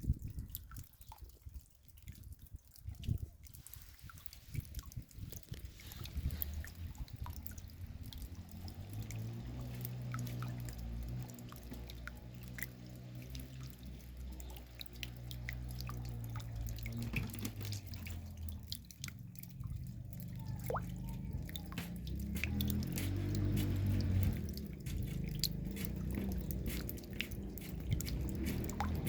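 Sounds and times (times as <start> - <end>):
raindrops dripping: 0.0 - 29.0.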